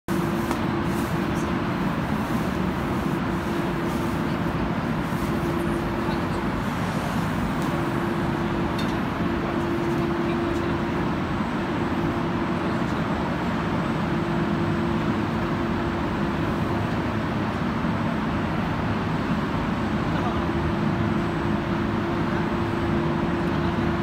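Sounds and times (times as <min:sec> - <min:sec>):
production line machinery running: 0:00.1 - 0:24.0.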